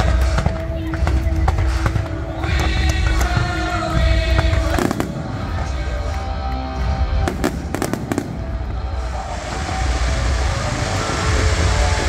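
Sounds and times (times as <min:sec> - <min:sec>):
deep rumble of fireworks barrage: 0:00.0 - 0:12.0.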